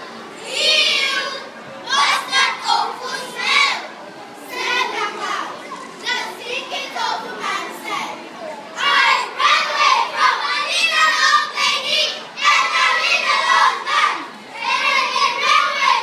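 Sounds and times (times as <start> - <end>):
children chanting in unison: 0.0 - 8.1, 8.8 - 16.0.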